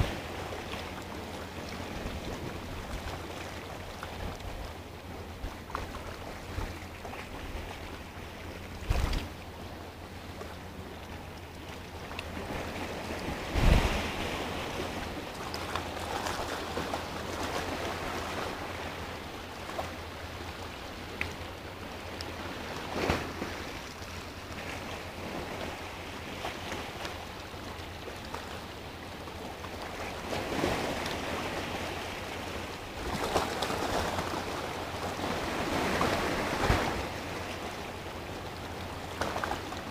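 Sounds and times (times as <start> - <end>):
sea waves breaking against rock: 0.0 - 39.9.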